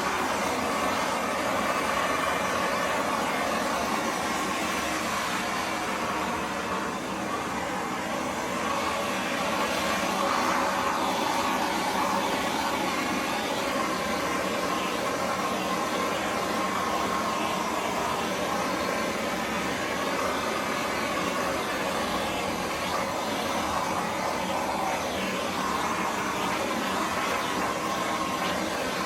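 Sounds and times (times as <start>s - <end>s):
blowtorch flame hissing: 0.0s - 29.0s.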